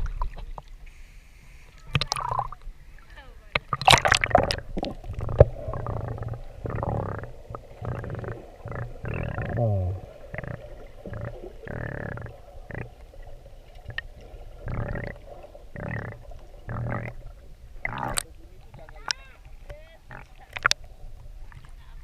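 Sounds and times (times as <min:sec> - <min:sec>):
underwater sloshing and bubbling: 0:00.0 - 0:22.0.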